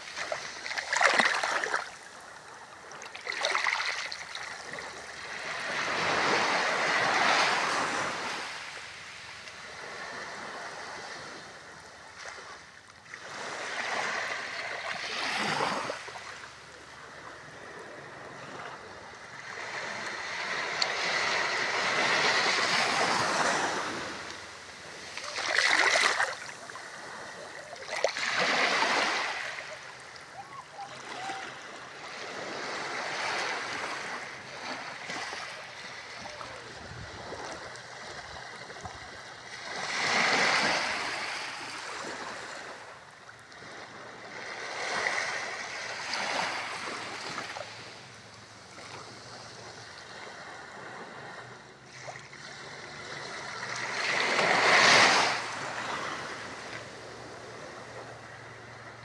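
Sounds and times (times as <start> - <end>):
small waves washing on sand: 0.0 - 59.0.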